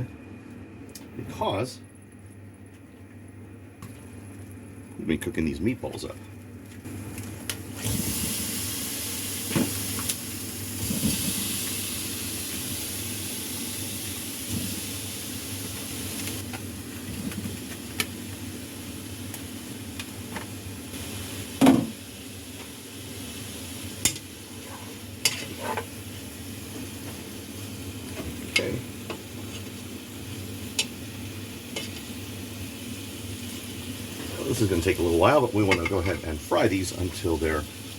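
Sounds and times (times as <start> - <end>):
meatballs sizzling in a pan: 6.9 - 37.9.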